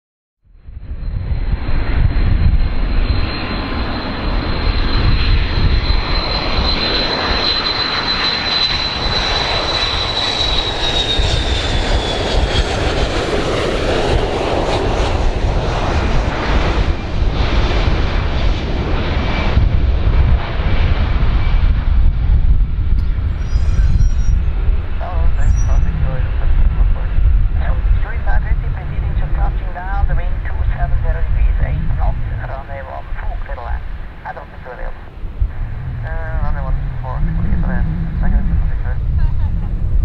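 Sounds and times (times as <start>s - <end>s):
jet engine roar and whine: 0.5s - 40.0s.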